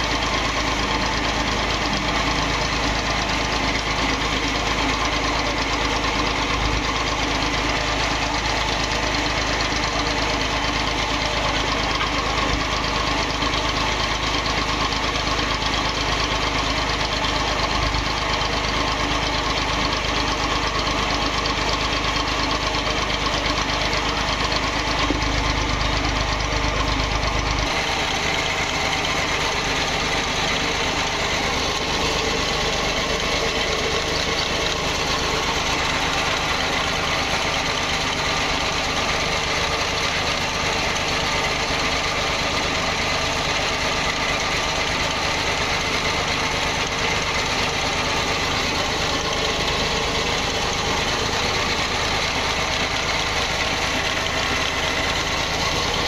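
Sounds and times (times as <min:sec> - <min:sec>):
stationary engine running: 0:00.0 - 0:56.0.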